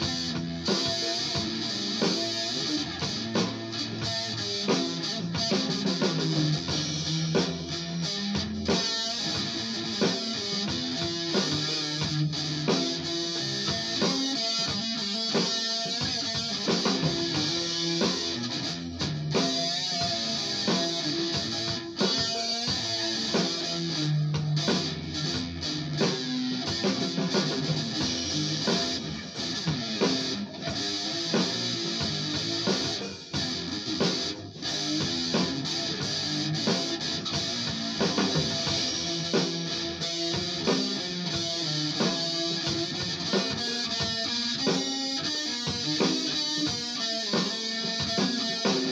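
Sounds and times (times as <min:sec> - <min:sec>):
electric guitar playing: 0:00.0 - 0:48.9.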